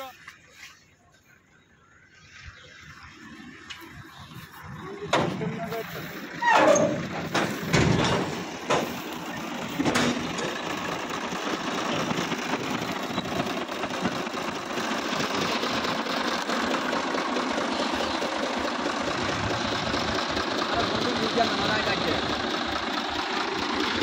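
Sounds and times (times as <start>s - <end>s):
diesel tractor engine idling: 0.0s - 24.0s.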